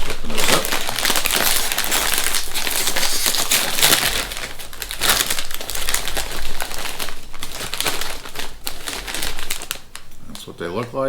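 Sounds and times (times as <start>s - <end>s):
foil chip bag crinkling: 0.0s - 11.0s.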